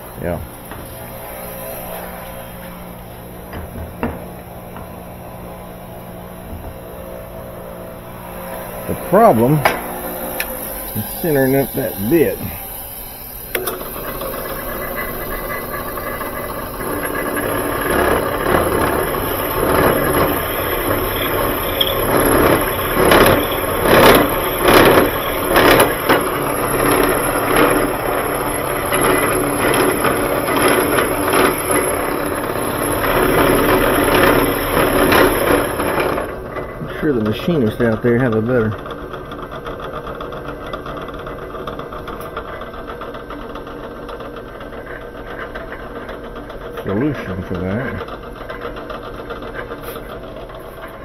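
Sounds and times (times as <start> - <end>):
drill press running: 0.0 - 51.0.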